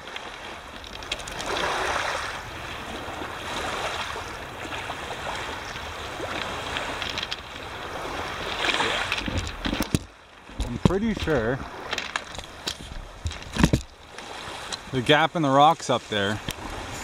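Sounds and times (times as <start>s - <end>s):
wind rumbling on microphone: 0.0s - 15.0s, 16.3s - 17.0s
waves washing onto stony beach: 0.0s - 17.0s.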